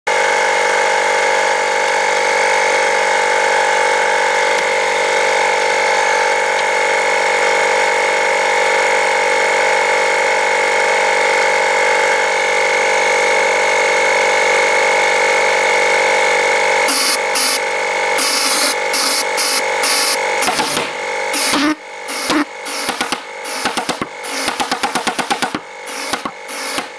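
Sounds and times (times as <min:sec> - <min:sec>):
mechanical drone: 0:00.1 - 0:26.9.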